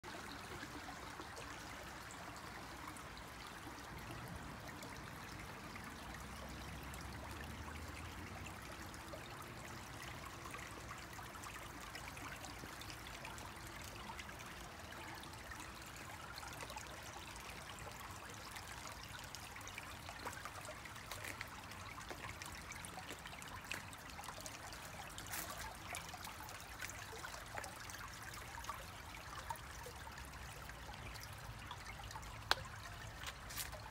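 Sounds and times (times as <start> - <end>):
stream trickling over rocks: 0.0 - 33.9.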